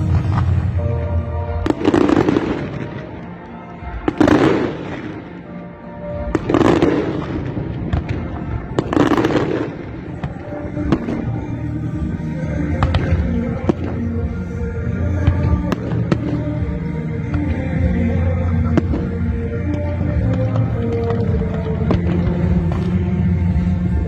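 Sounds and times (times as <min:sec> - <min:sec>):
background music: 0:00.0 - 0:24.0.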